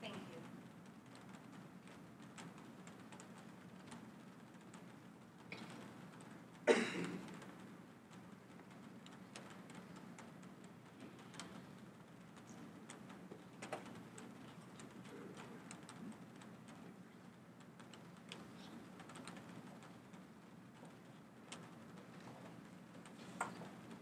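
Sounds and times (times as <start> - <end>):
faint clicks and taps: 0.0 - 24.0.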